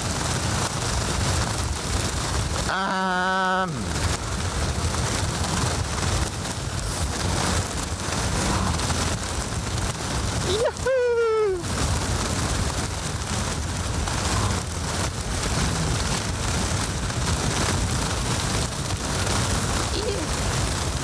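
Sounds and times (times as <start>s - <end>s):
rain and wind on microphone: 0.0s - 21.0s.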